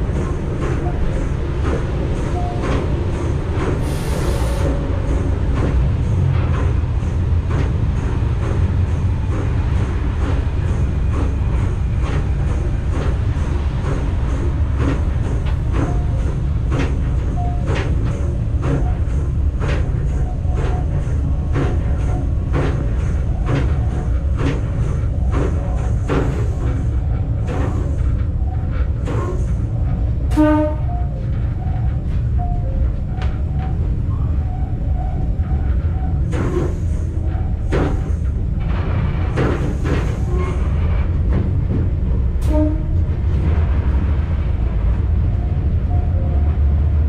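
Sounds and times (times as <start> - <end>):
train rumbling on track: 0.0 - 47.0.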